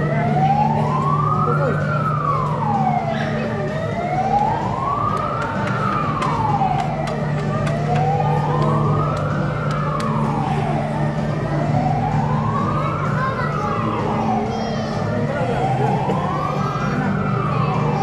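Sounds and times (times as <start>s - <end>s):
wailing siren: 0.0s - 18.0s.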